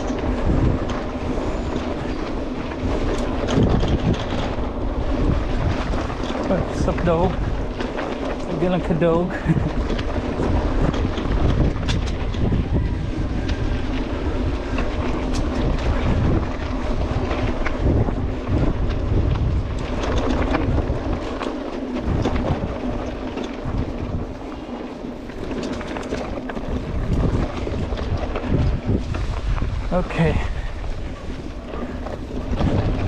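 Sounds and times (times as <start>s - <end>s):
bike rattling over ground: 0.0s - 33.0s
wind buffeting microphone: 0.0s - 33.0s.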